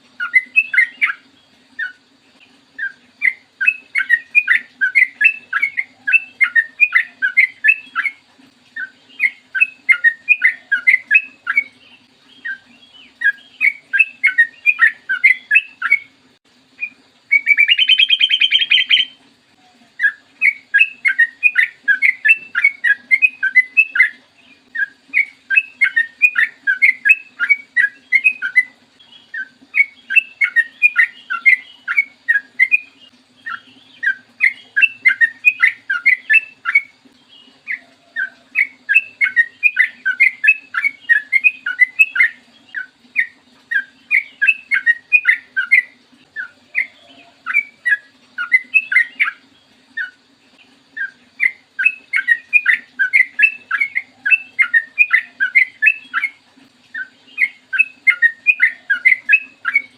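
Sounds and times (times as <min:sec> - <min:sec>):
bird song bubbly notes: 0:00.0 - 0:59.9
harsh buzzy bird trill: 0:00.0 - 0:59.9.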